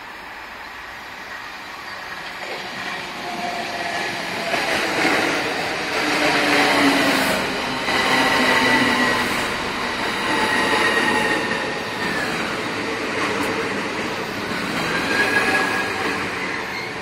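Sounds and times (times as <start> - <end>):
train wheels rushing on rail: 0.0 - 17.0.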